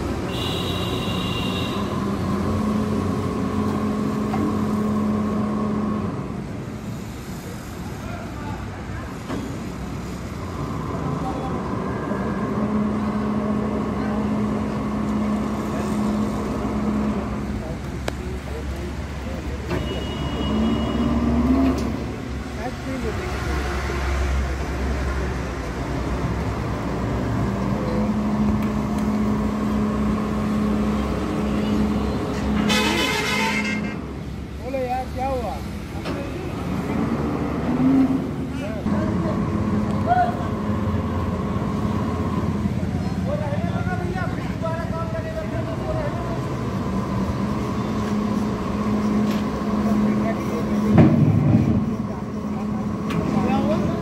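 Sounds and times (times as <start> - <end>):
diesel engine running under load: 1.8 - 8.0, 9.0 - 34.6, 35.8 - 54.0.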